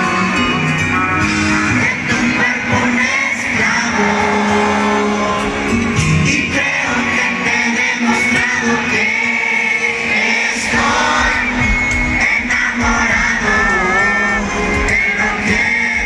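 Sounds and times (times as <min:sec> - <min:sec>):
audience singing along: 0:00.0 - 0:16.0
live band music: 0:00.0 - 0:16.0
person singing: 0:00.0 - 0:16.0.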